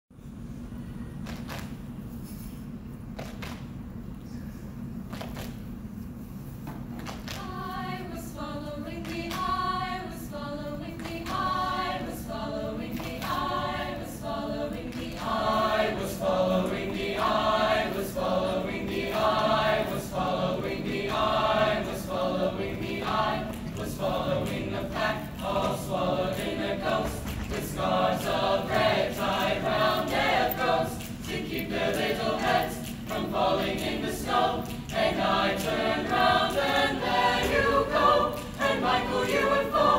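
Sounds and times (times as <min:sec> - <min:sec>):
choir singing unaccompanied: 0:07.4 - 0:39.9.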